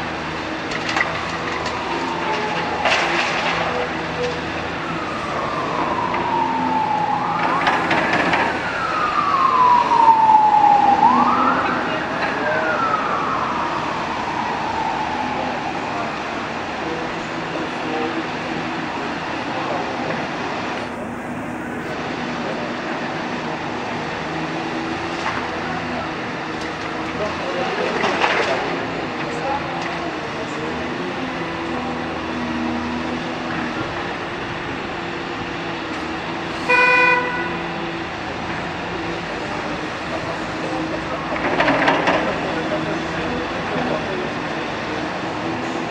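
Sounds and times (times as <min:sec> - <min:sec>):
excavator diesel engine running: 0:00.0 - 0:45.9
siren wailing: 0:00.0 - 0:45.9.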